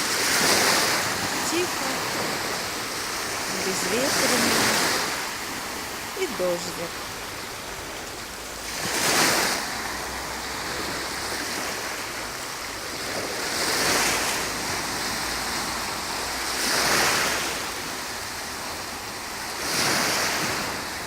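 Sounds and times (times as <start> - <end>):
small waves washing ashore: 0.0 - 21.0.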